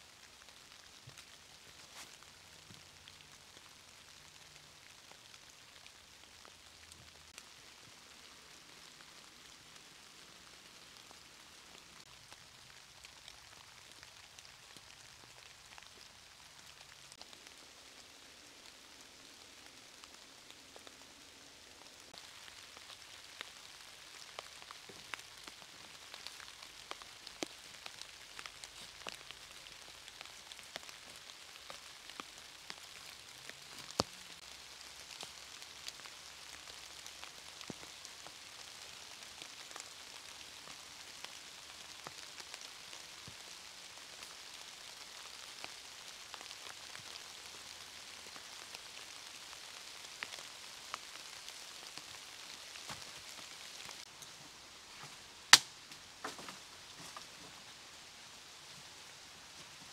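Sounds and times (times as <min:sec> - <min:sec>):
steady rain with ticking drops: 0:00.0 - 0:59.9.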